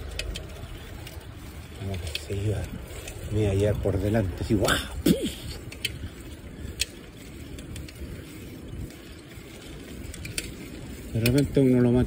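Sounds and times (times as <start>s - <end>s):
bicycle rolling on asphalt: 0.0s - 12.0s
wind noise: 0.0s - 12.0s.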